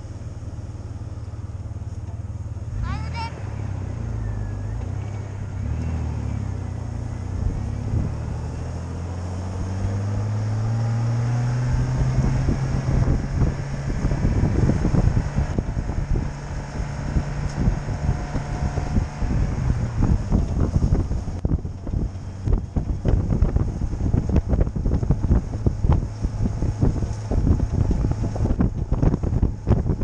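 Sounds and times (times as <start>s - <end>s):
vehicle engine accelerating: 0.0s - 30.0s
wind buffeting microphone: 5.2s - 30.0s.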